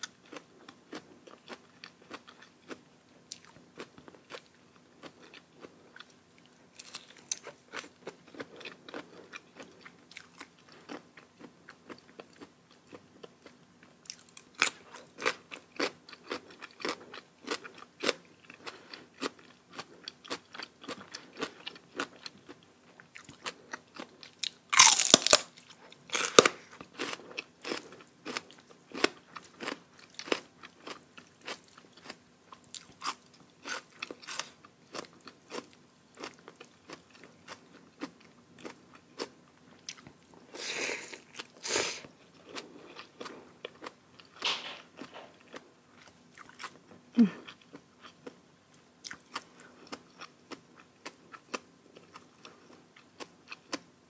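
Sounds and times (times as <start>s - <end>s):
chewing and crunching crisp food: 0.0s - 54.0s.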